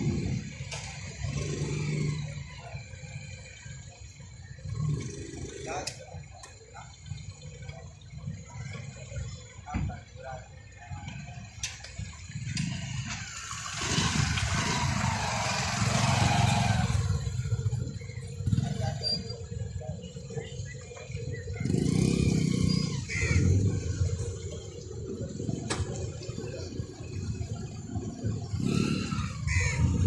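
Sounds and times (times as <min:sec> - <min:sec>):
engines rumbling: 0:00.0 - 0:30.0.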